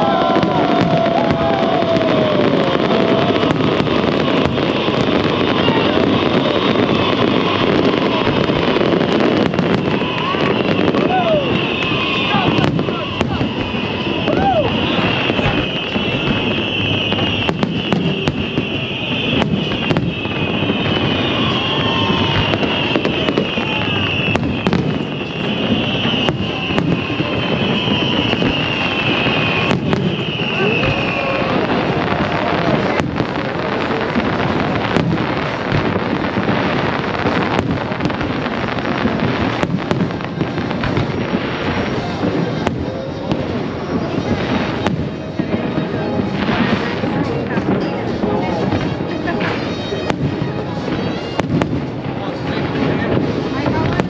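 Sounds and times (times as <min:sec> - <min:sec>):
fireworks booming and crackling: 0:00.0 - 0:54.0
sharp firework cracks: 0:00.0 - 0:54.0.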